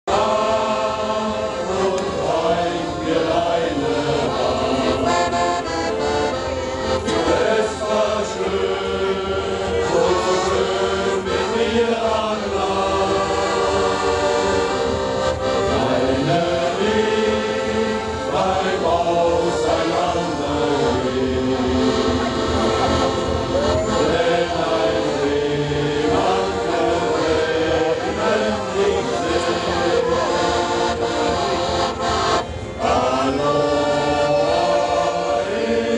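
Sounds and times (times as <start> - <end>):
accordions: 0.0 - 35.9
male choir singing: 0.0 - 35.9.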